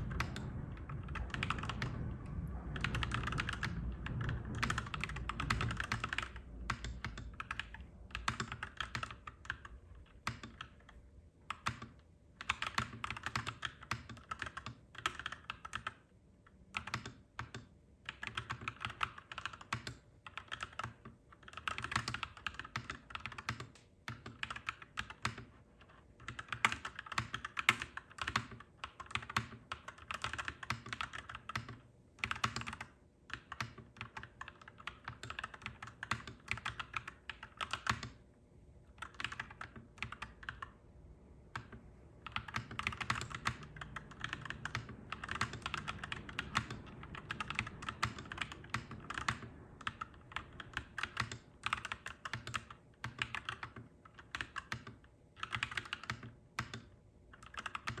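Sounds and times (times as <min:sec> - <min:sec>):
mechanical keyboard typing: 0:00.0 - 0:16.1, 0:16.7 - 0:38.3, 0:38.9 - 0:40.8, 0:41.5 - 0:58.0.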